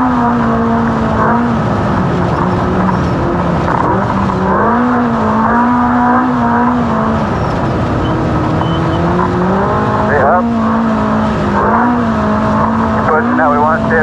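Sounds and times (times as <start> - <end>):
drivetrain and terrain rumble: 0.0 - 14.0
race car engine pulling hard: 0.0 - 14.0.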